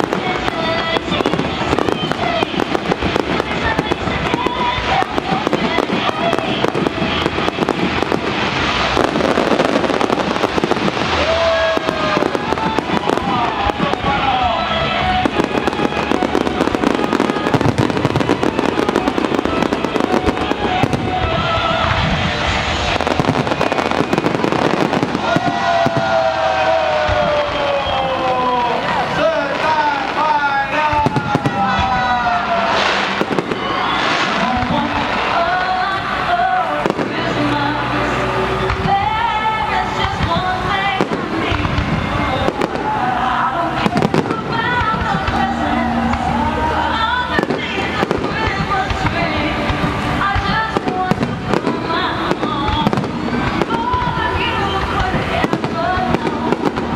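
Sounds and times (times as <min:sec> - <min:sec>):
fireworks crackling and popping: 0:00.0 - 0:56.9
music playing: 0:00.0 - 0:56.9.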